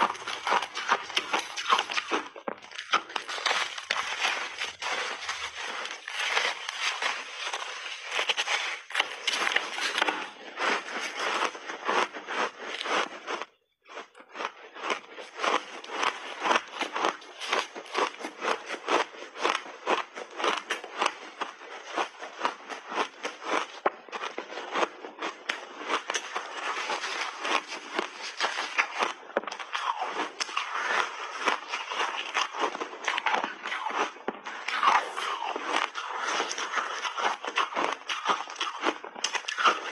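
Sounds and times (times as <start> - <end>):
ice crunching as chewed: 0.0 - 39.9.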